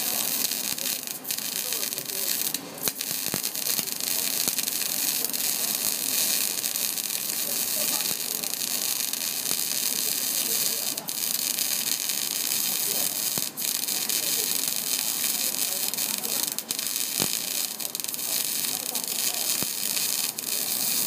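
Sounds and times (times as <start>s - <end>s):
arc welding crackling hiss: 0.0s - 21.0s.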